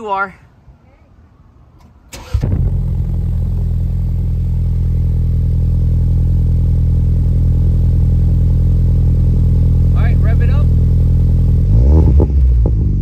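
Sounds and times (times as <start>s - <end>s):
car engine idling: 1.7s - 13.0s.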